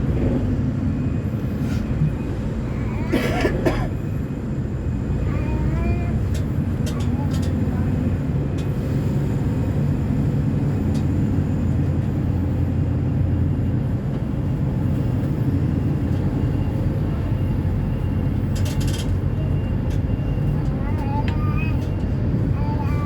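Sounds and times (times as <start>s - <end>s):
diesel bus engine running: 0.0s - 23.0s.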